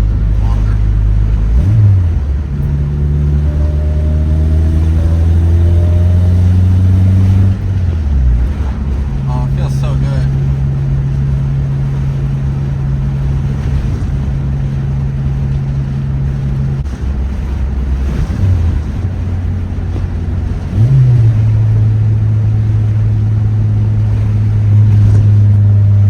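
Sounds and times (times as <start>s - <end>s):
car engine droning: 0.0s - 26.0s
road and wind noise: 0.0s - 26.0s.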